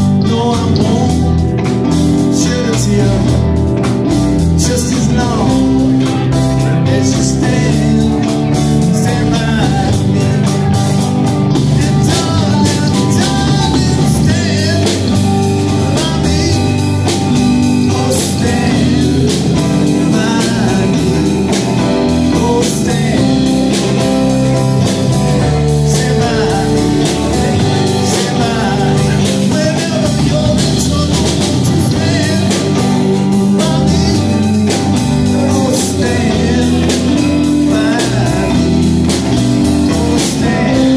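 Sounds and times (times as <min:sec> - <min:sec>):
live blues band playing: 0:00.0 - 0:40.9.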